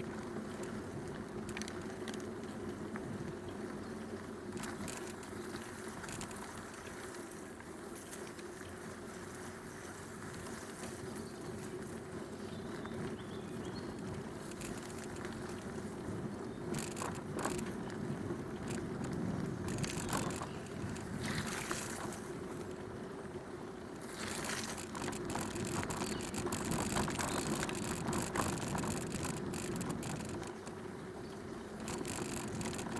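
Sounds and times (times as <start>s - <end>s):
bike clicking rattle: 0.0s - 2.9s, 4.0s - 8.6s, 12.8s - 22.9s, 24.0s - 32.9s
bicycle tyre and drivetrain noise: 0.0s - 32.9s.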